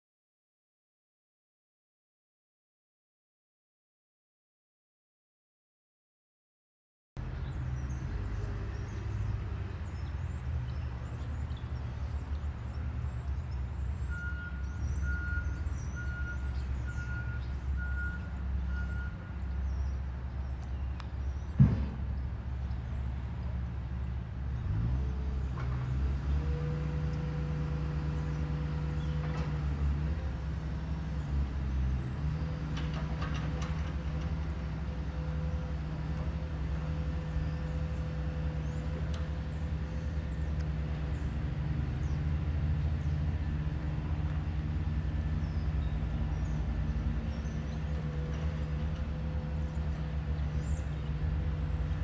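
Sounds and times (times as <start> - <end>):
diesel engine rumble: 7.2 - 52.0.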